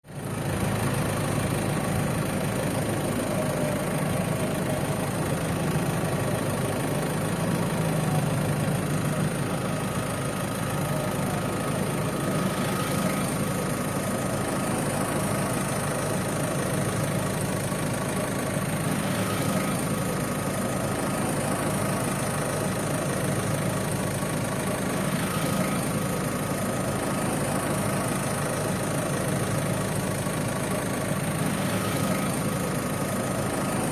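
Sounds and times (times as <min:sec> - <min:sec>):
van engine idling: 0:00.0 - 0:33.9.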